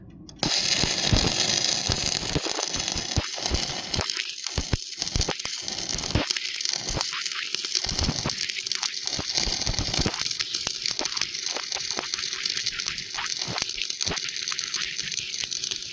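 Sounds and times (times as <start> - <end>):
sharp welding pops: 0.3 - 15.9
welding arc crackling sizzle: 0.4 - 15.9.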